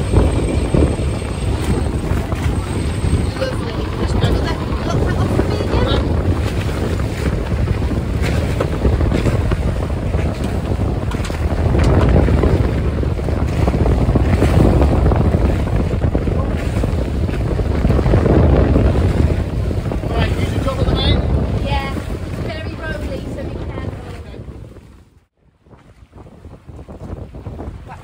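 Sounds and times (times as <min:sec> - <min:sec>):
water washing alongside boat: 0:00.0 - 0:28.0
wind buffeting microphone: 0:00.0 - 0:28.0.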